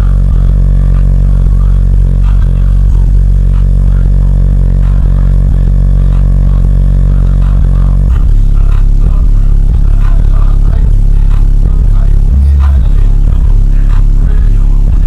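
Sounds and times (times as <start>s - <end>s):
bass-heavy rap music: 0.0s - 15.0s.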